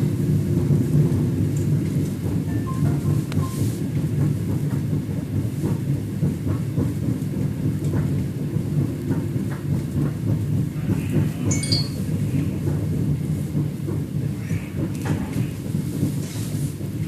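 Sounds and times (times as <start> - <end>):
train car rumble: 0.0 - 17.0.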